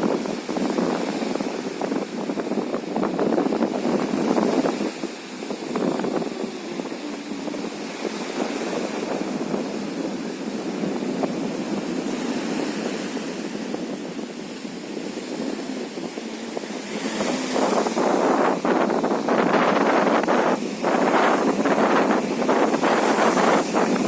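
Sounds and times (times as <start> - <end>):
wind blowing across microphone: 0.0 - 24.0.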